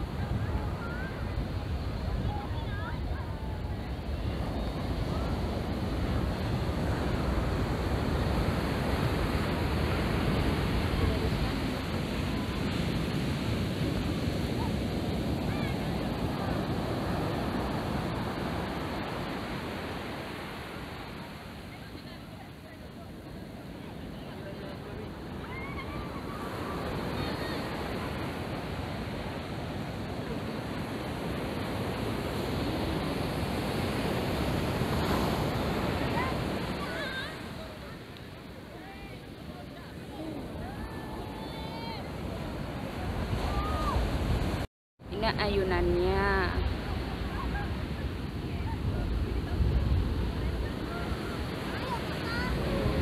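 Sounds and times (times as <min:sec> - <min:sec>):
wind on microphone: 0:00.0 - 0:22.4, 0:23.1 - 0:53.0
surf breaking on beach: 0:00.0 - 0:53.0.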